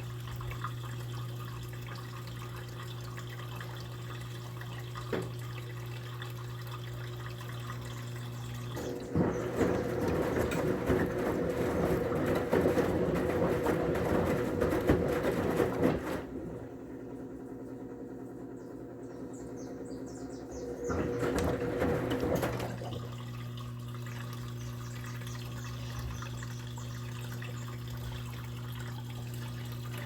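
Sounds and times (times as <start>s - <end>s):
washing machine hum: 0.0s - 30.0s
water rushing in washing machine: 0.0s - 30.0s.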